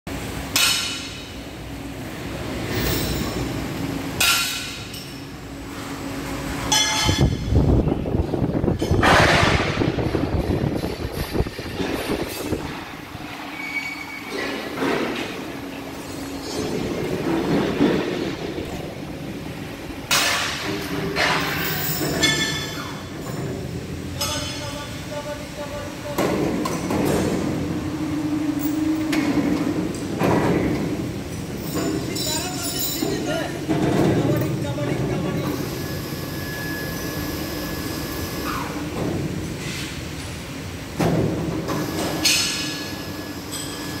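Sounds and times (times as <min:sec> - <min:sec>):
metal workshop din: 0:00.1 - 0:44.0.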